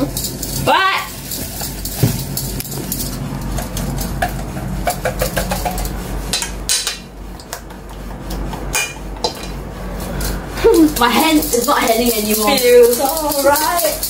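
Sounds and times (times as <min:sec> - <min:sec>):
utensil clinking in metal bowl: 0:00.0 - 0:07.5, 0:10.2 - 0:14.0.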